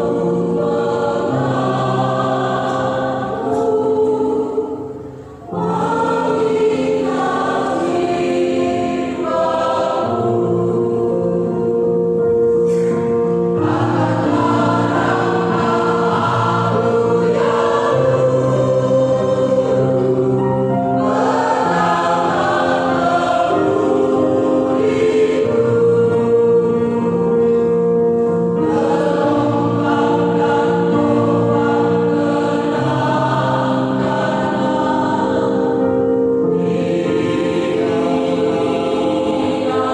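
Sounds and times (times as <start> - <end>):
choir singing gospel: 0.0 - 39.9.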